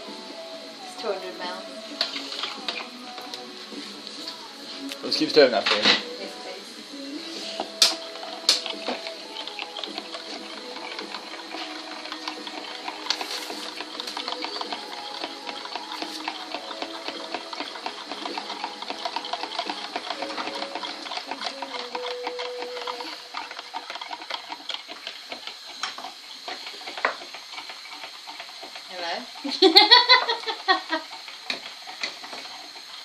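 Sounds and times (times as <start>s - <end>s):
food sizzling in a pan: 0.0s - 33.0s
spoon stirring: 1.6s - 5.6s, 6.8s - 33.0s.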